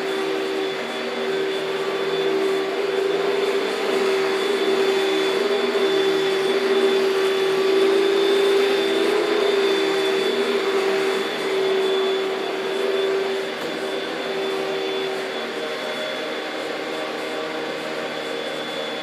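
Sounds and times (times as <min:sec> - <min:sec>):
upright vacuum cleaner running: 0:00.0 - 0:19.0.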